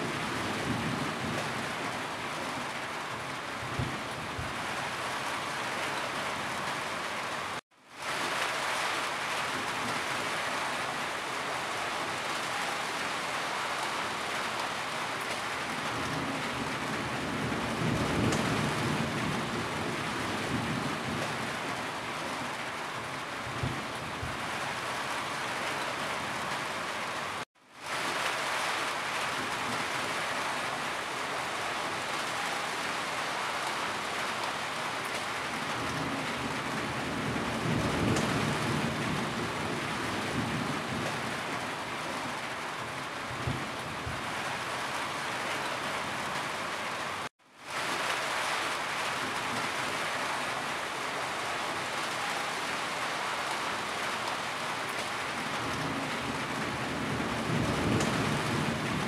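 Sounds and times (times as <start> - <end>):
heavy rain on a roof: 0.0 - 59.0.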